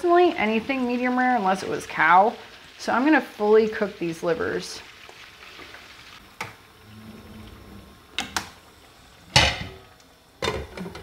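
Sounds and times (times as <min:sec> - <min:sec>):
frying hiss: 0:00.0 - 0:11.0.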